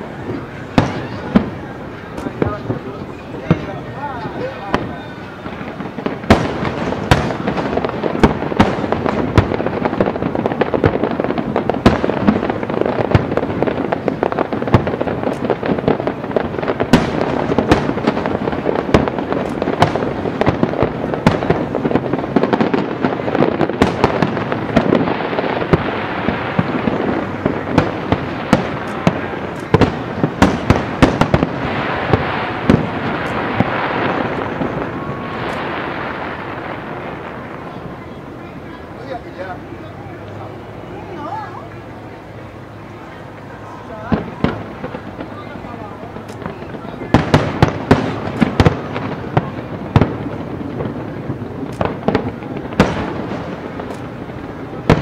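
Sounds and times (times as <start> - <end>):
firework shells booming: 0.0 - 38.4, 43.9 - 55.0
fireworks crackling: 0.0 - 55.0.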